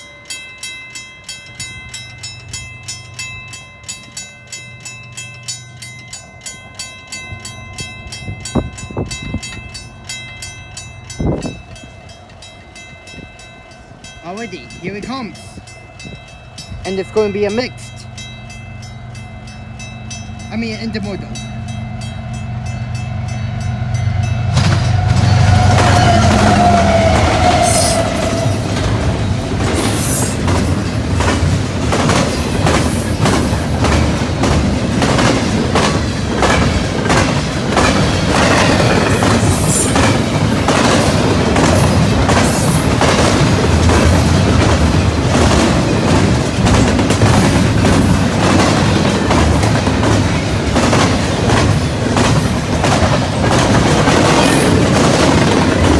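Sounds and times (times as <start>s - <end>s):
diesel locomotive engine rumble: 0.0s - 55.9s
train wheels clattering on rails: 0.0s - 55.9s.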